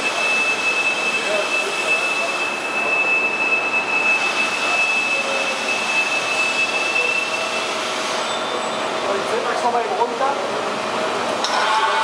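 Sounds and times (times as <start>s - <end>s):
high steady whine: 0.0s - 10.0s.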